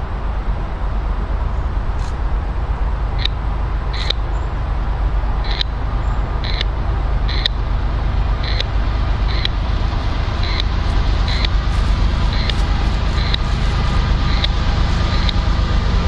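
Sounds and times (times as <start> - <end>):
freight train locomotive rumble: 0.0 - 16.0.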